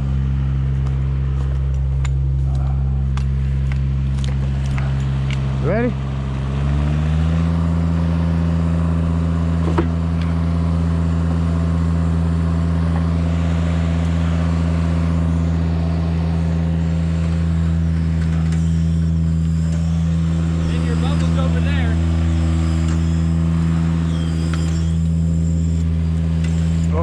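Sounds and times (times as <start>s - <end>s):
engine running at raised speed: 0.0s - 27.0s.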